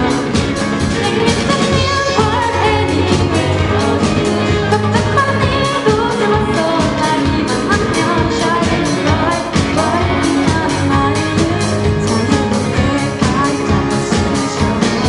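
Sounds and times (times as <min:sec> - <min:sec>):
live band playing: 0:00.0 - 0:15.0
steady drum beat: 0:00.0 - 0:15.0
vocalist singing: 0:00.0 - 0:15.0.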